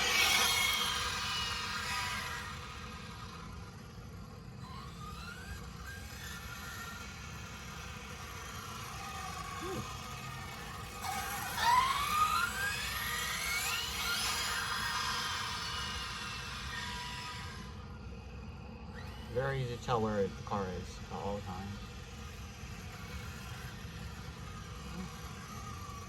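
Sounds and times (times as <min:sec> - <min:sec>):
rc car motor whining: 0:00.0 - 0:26.0.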